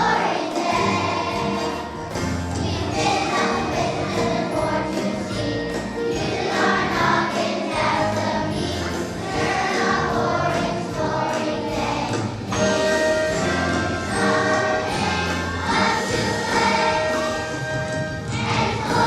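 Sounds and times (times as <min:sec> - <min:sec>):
children's choir singing: 0:00.0 - 0:19.0
musical accompaniment: 0:00.0 - 0:19.0.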